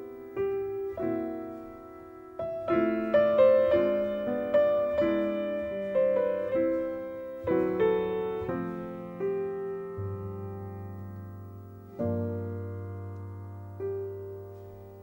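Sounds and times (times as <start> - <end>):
slow piano ballad chords: 0.0 - 15.0.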